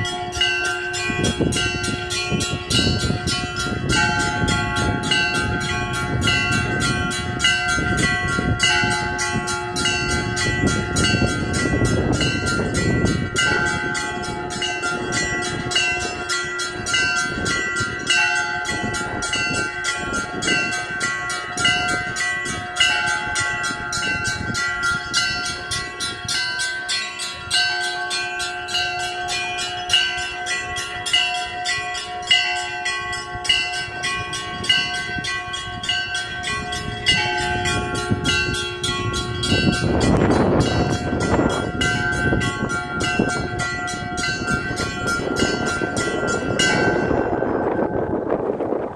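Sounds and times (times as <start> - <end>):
large bells ringing: 0.0 - 48.9
small church bells striking: 0.0 - 48.9.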